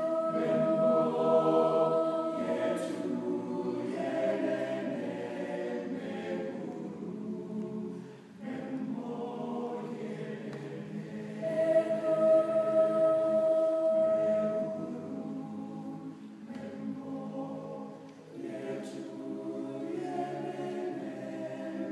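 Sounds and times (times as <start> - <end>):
choir singing unaccompanied: 0.0 - 21.9.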